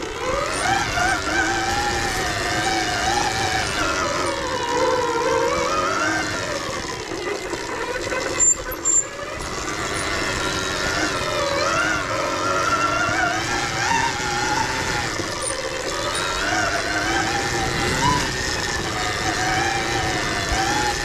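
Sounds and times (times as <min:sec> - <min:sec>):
motorbike engine revving: 0:00.0 - 0:21.0.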